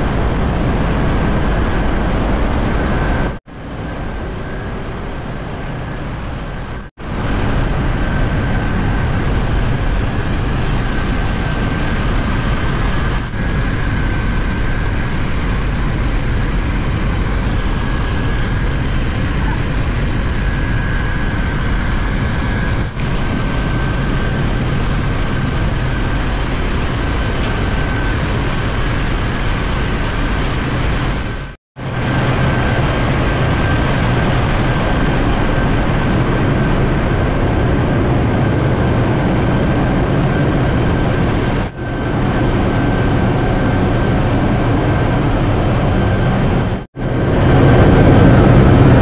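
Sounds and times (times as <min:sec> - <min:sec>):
engine room machinery drone: 0:00.0 - 0:49.0
high machinery whine: 0:00.0 - 0:49.0.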